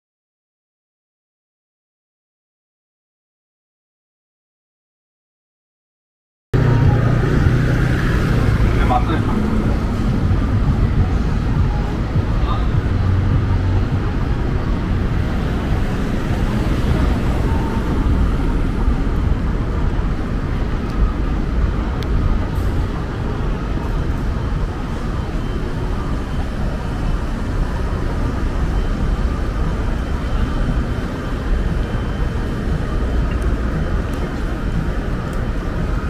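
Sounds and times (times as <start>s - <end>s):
traffic passing: 6.6s - 36.0s.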